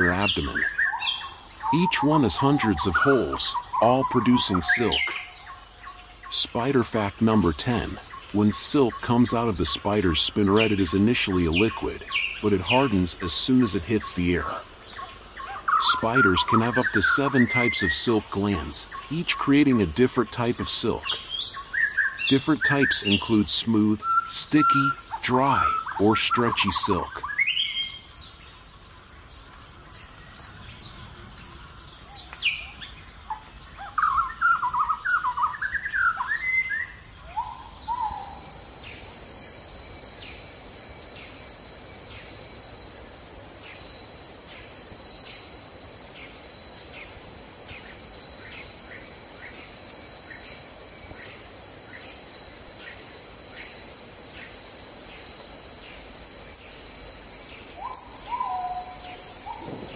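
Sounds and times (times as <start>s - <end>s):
bird chirping: 0.0s - 59.9s
insects trilling: 0.0s - 59.9s.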